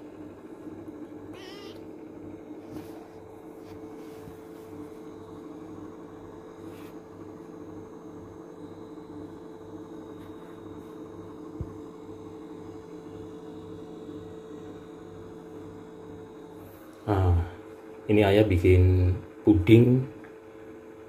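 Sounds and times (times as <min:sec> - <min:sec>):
electrical hum with low throb: 0:00.0 - 0:21.0.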